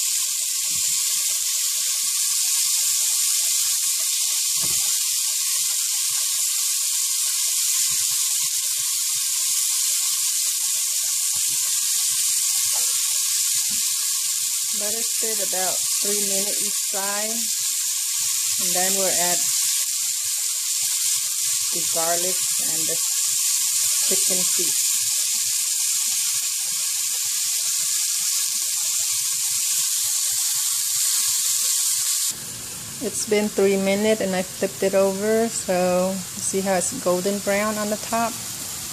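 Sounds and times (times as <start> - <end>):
meat sizzling in hot oil: 0.0 - 38.9.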